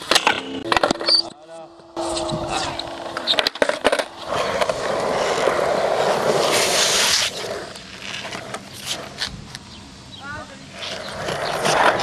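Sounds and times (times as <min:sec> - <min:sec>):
skateboard grinding metal rail: 0:00.0 - 0:09.3, 0:10.7 - 0:12.0
skateboard wheels rolling: 0:00.0 - 0:09.9, 0:10.6 - 0:12.0.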